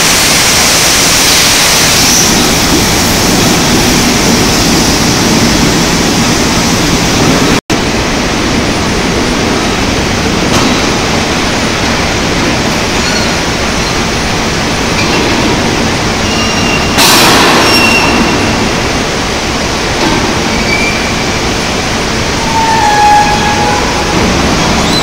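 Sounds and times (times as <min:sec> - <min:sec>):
loud rushing industrial noise: 0:00.0 - 0:25.0.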